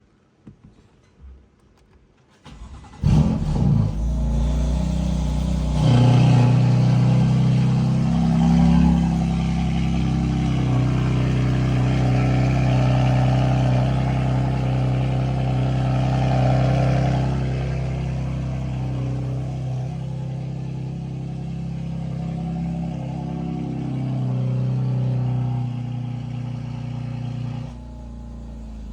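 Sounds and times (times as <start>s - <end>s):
car engine starting and idling: 2.3s - 28.9s.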